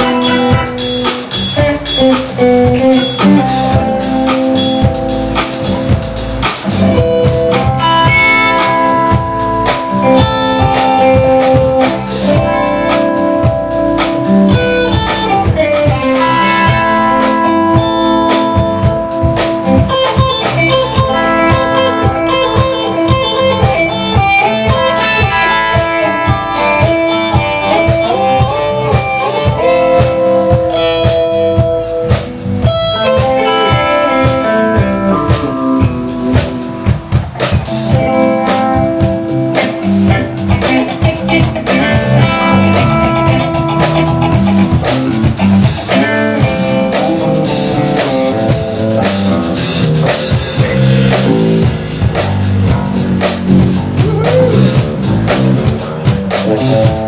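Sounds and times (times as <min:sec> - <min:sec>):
drum kit steady beat: 0:00.0 - 0:57.0
electric bass: 0:00.0 - 0:57.0
electric guitar melodic lines: 0:00.0 - 0:57.0.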